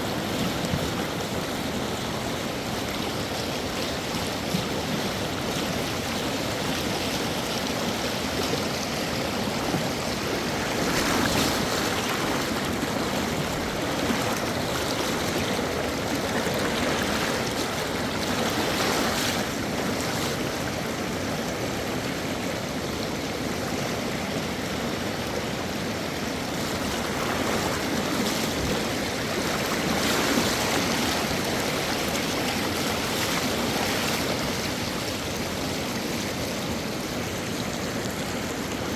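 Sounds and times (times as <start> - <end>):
mountain river rushing: 0.0 - 38.9.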